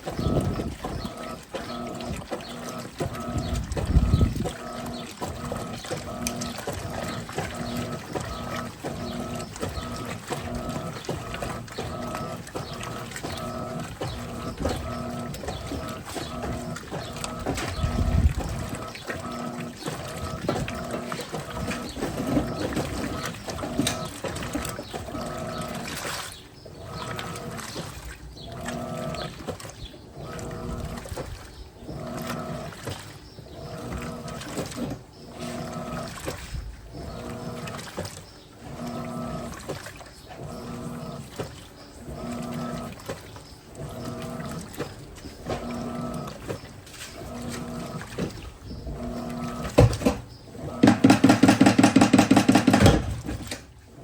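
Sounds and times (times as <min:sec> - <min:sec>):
washing machine motor humming: 0:00.0 - 0:54.0
water and clothes sloshing: 0:00.0 - 0:54.0.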